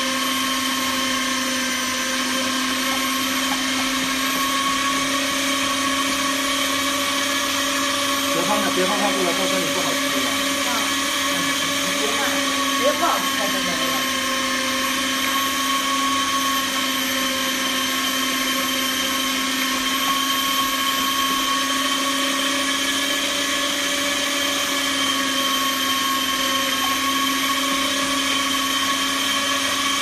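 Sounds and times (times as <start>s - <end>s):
meat grinder motor whining: 0.0s - 30.0s.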